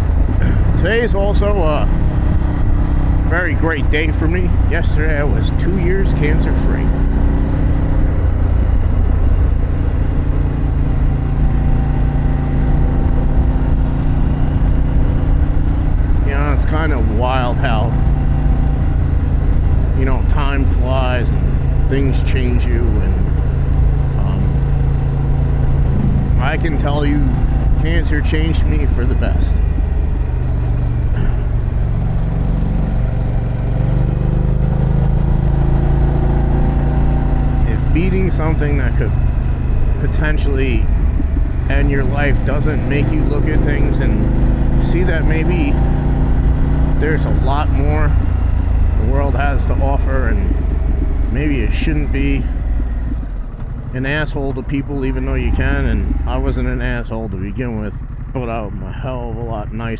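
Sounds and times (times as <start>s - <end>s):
wind noise: 0.0s - 58.4s
low rumble: 0.0s - 59.9s
motorcycle engine running: 0.0s - 59.9s.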